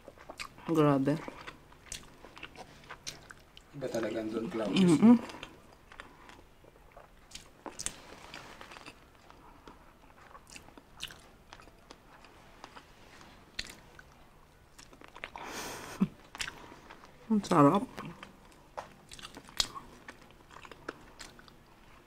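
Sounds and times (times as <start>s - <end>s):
person chewing with mouth clicks: 0.0s - 3.8s, 4.7s - 17.2s, 17.9s - 22.0s.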